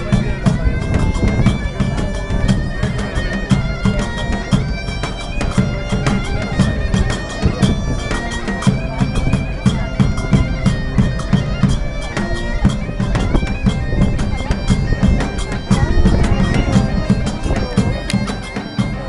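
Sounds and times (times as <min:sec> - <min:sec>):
drums beating fast rhythm: 0:00.0 - 0:19.0
reedy wind instrument melody: 0:00.0 - 0:19.0.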